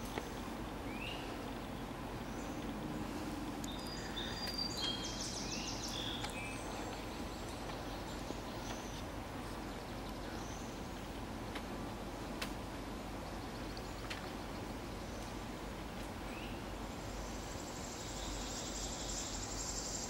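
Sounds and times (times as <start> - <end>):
outdoor background noise: 0.0 - 20.0
small birds chirping: 0.0 - 20.0.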